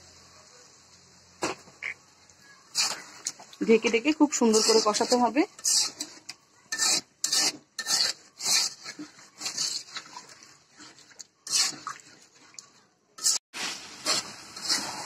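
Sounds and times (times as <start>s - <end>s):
metal spatula scraping wok: 2.6s - 15.0s.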